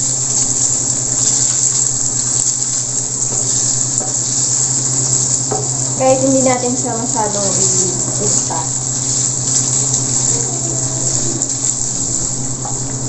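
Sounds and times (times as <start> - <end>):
food sizzling in a frying pan: 0.0 - 13.0
steady low hum: 0.0 - 13.0.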